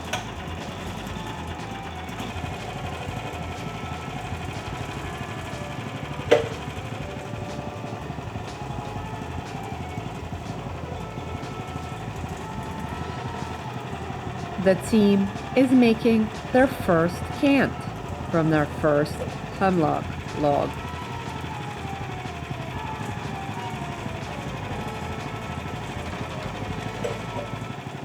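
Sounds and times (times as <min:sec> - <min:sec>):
sawmill engine running: 0:00.0 - 0:28.0.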